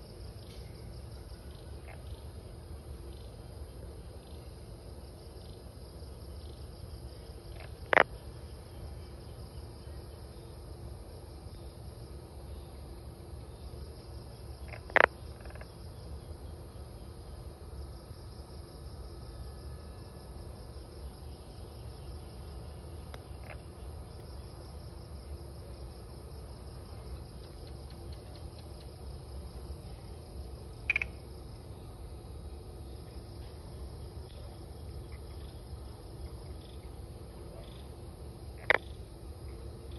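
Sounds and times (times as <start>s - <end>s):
crickets chirring: 0.0s - 39.9s
low background rumble: 0.0s - 39.9s.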